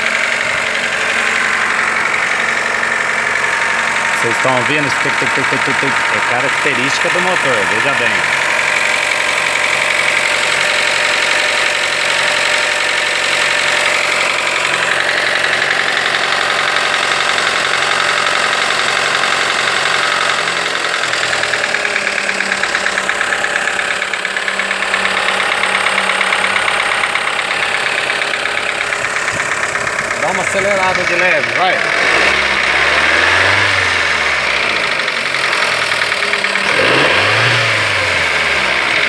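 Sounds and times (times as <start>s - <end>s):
car engine idling with ticking: 0.0s - 39.0s.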